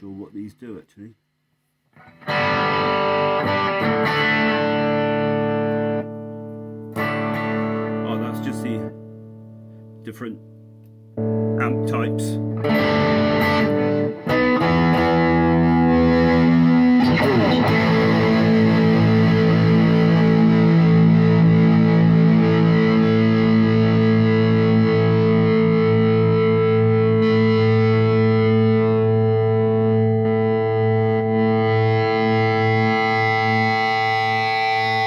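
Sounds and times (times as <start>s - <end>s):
distorted electric guitar chord ringing: 2.0s - 35.0s.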